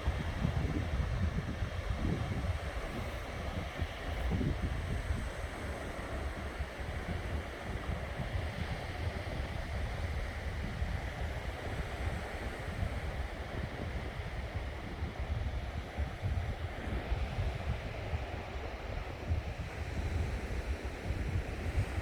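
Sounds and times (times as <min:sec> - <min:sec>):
sea waves on a beach: 0:00.0 - 0:22.0
wind buffeting microphone: 0:00.0 - 0:22.0.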